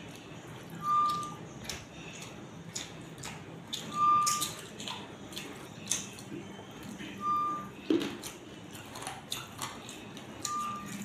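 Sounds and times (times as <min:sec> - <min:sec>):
wet chewing and lip-smacking: 0:00.0 - 0:07.2, 0:07.8 - 0:11.0.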